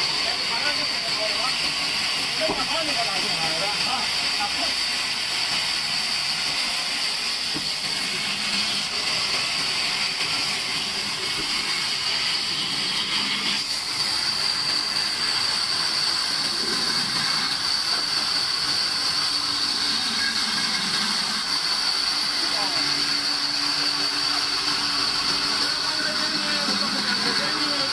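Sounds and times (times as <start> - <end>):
band saw cutting logs: 0.0 - 27.9.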